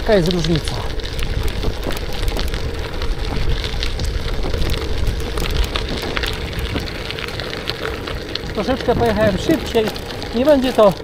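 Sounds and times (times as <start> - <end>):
small crackles and ticks: 0.0 - 11.0
wind rumbling on microphone: 0.0 - 11.0.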